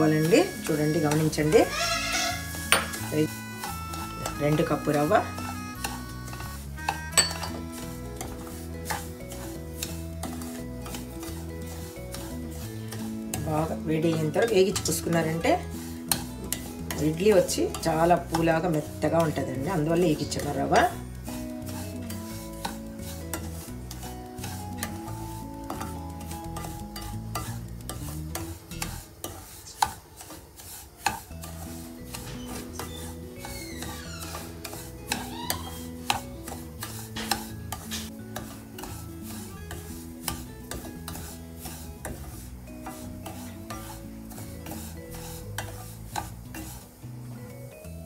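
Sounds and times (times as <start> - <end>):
background music: 0.0 - 29.2, 31.2 - 48.0
spatula tapping metal pan: 0.0 - 46.9
faint sizzle: 0.0 - 48.0
spatula scraping metal pan: 0.0 - 48.0.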